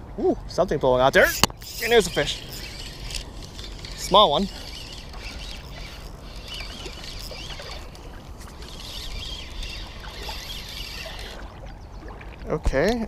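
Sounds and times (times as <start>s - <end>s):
outdoor background hiss: 0.0s - 13.0s
small birds chirping: 1.2s - 12.3s.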